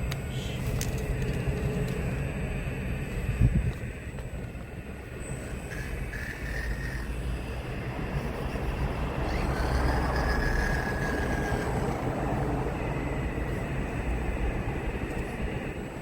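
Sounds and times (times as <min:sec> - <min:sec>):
model excavator motor whine: 0:00.0 - 0:16.0.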